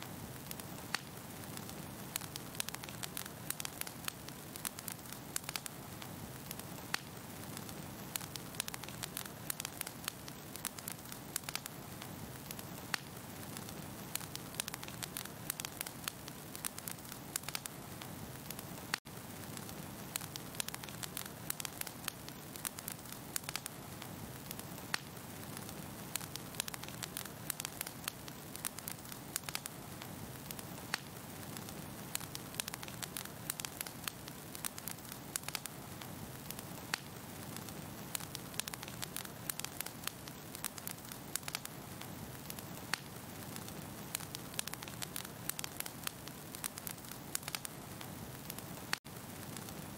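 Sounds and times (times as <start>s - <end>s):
fire crackling: 0.0s - 49.9s
fire pops and snaps: 0.0s - 49.9s.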